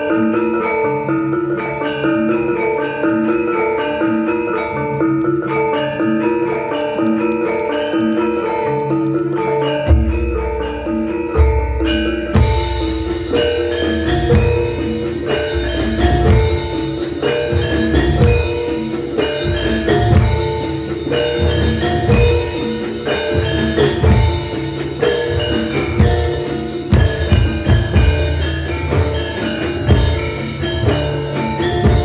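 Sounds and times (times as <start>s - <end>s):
gamelan metallophones ringing: 0.0s - 32.0s
hand drum strokes: 0.0s - 32.0s.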